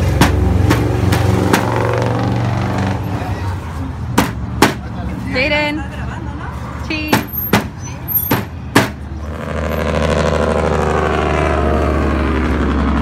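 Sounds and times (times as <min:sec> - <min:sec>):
heavy truck engine passing: 0:00.0 - 0:13.0.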